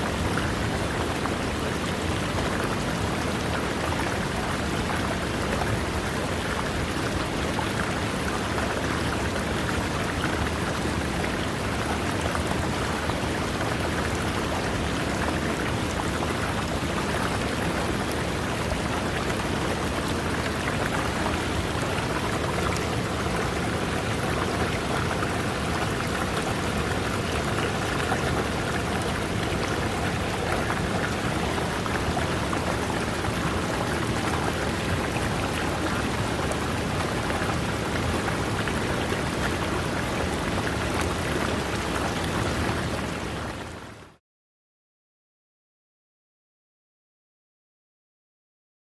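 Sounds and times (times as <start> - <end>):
river water rushing over rocks: 0.0 - 43.6.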